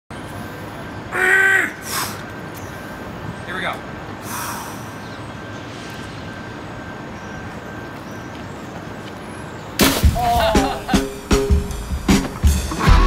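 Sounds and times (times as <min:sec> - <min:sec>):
low traffic rumble: 0:00.1 - 0:13.0.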